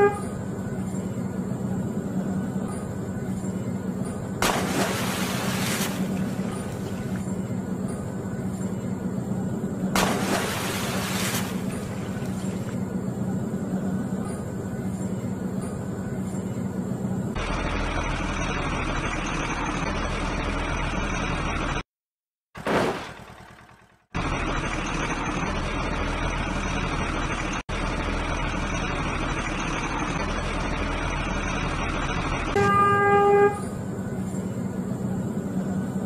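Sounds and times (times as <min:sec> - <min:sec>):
truck engine drone: 0:00.0 - 0:21.9, 0:22.6 - 0:36.0.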